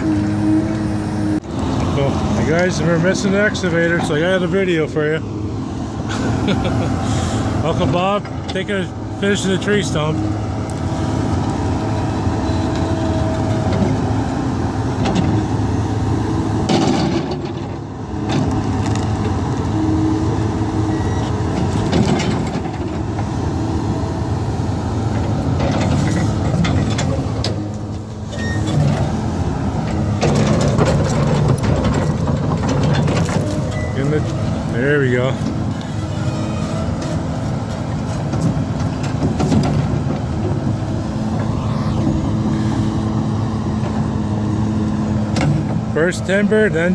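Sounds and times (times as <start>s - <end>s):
excavator diesel engine under load: 0.0s - 46.9s.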